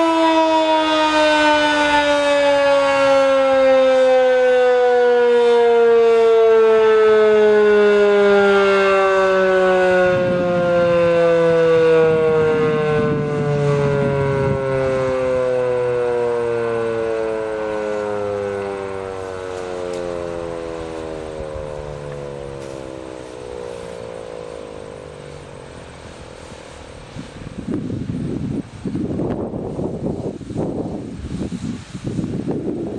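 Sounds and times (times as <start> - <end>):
warning siren winding down: 0.0 - 30.3.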